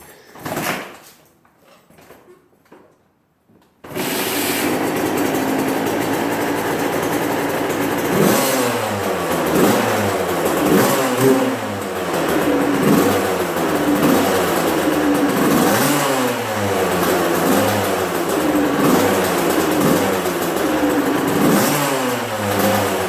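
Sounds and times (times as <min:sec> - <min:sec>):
dirt bike engine revving: 0:03.9 - 0:23.0.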